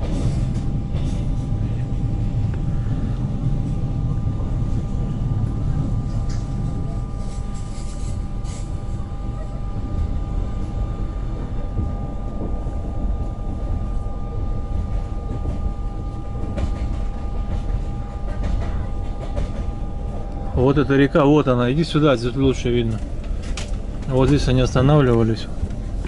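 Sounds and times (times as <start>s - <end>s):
train rumble on track: 0.0s - 26.0s.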